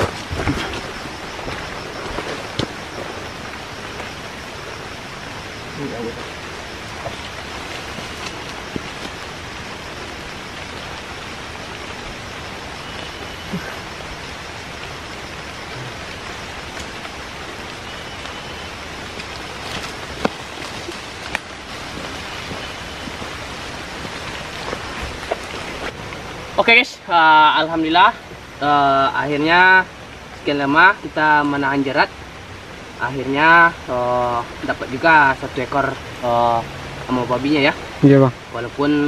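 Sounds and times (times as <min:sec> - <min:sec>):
rain on leaves and ground: 0:00.0 - 0:39.0.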